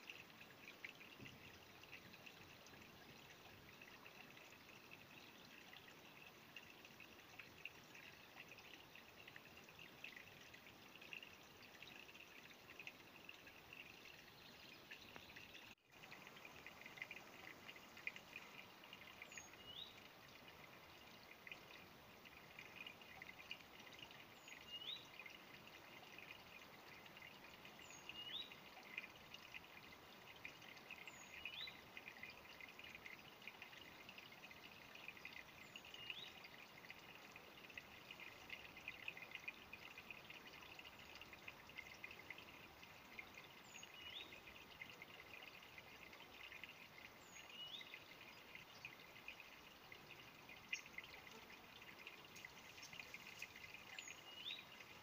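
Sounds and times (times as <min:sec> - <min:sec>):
faint stream trickling: 0:00.0 - 0:55.0.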